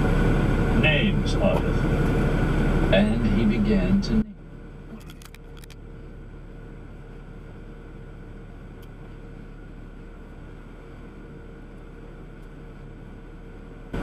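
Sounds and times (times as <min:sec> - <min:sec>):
faint steady hum: 0:00.0 - 0:14.0
truck road and engine rumble: 0:00.0 - 0:14.0.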